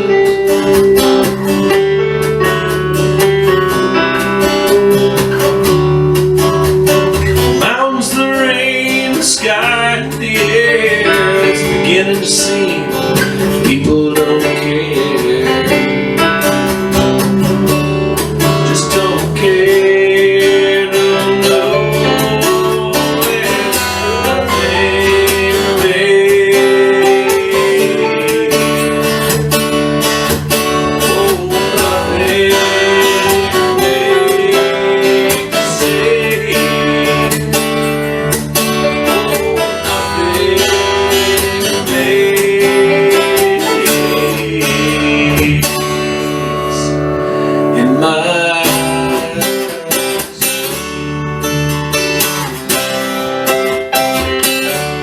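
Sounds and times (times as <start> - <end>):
sliding melody line: 0.0 - 54.4
strummed acoustic guitar: 0.0 - 55.0.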